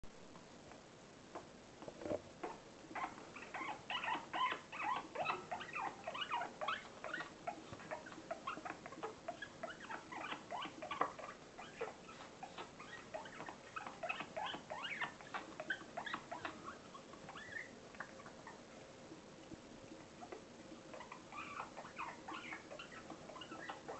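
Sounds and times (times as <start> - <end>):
small animal squeaking and chirping: 2.4 - 18.7, 20.2 - 23.9.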